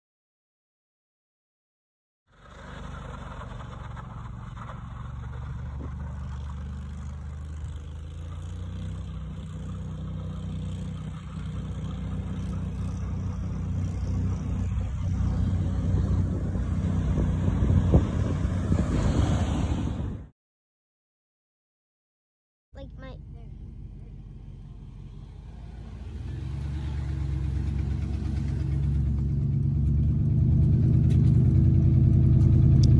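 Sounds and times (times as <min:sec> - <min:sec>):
vehicle engine humming: 0:02.3 - 0:20.3, 0:22.8 - 0:32.9.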